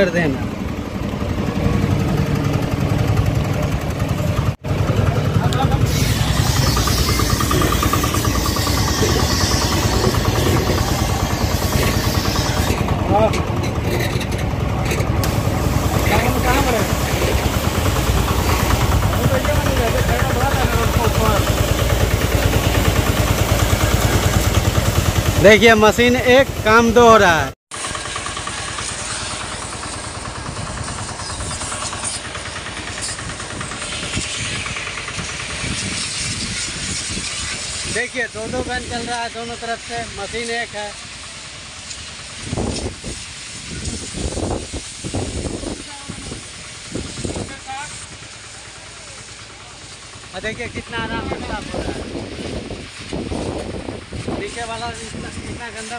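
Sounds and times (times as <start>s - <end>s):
pressure washer running: 0.0s - 55.9s
water spray hissing: 5.5s - 13.3s, 15.1s - 55.9s.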